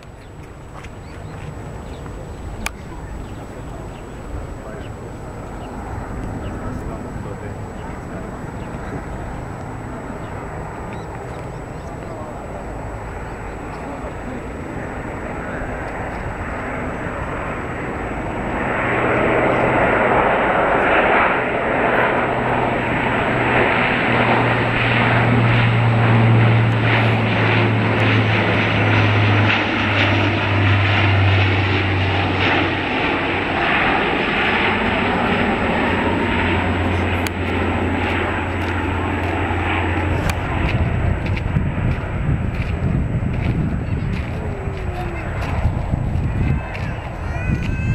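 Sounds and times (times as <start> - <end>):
airliner engines flying over: 0.0 - 47.9.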